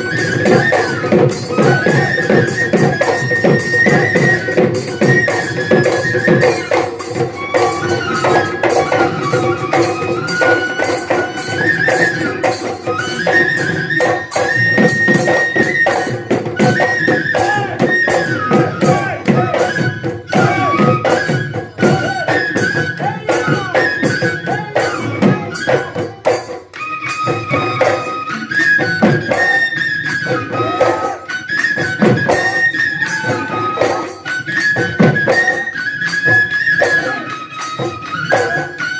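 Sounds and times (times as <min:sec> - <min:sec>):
flute melody: 0:00.0 - 0:38.9.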